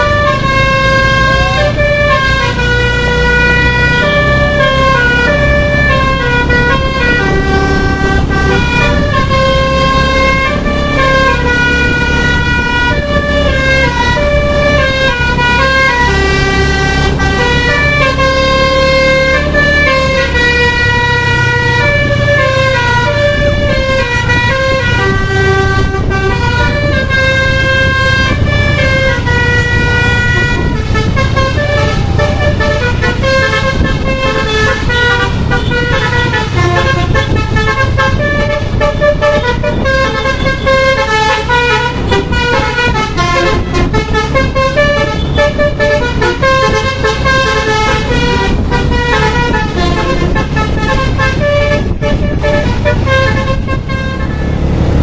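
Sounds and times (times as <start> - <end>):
diesel engine rumble: 0.0 - 55.0
multi-tone bus horn tune: 0.0 - 55.0.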